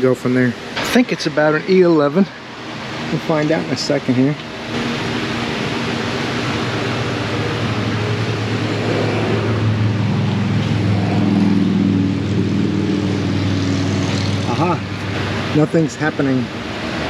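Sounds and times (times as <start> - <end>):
motor humming: 0.3 - 17.0.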